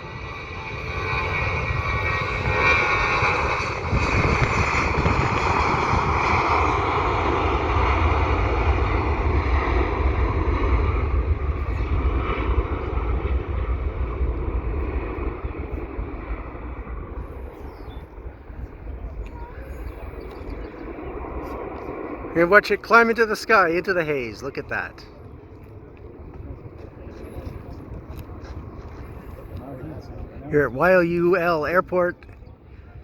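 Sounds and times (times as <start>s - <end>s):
jet airliner roar: 0.0s - 33.0s.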